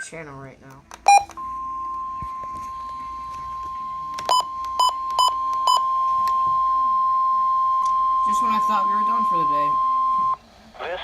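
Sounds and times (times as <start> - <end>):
steady high alarm tone: 1.1 - 10.4.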